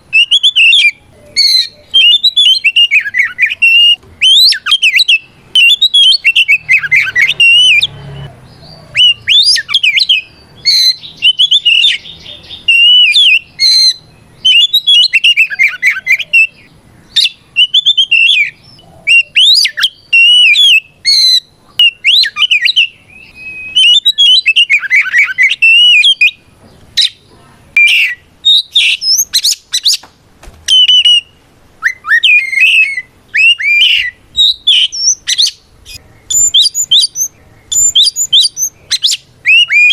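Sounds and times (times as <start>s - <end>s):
bird singing varied whistles: 0.1s - 8.3s, 8.9s - 26.4s, 27.8s - 30.0s, 30.7s - 39.9s.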